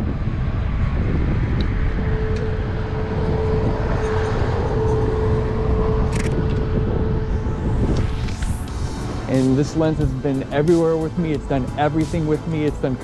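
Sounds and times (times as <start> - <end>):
traffic rumble: 0.0 - 13.0
vehicle engine drone: 0.0 - 13.0.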